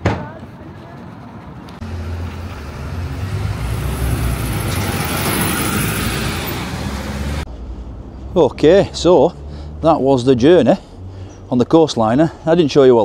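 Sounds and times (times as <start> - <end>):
road noise: 0.0 - 13.0
bus engine running: 1.4 - 12.4.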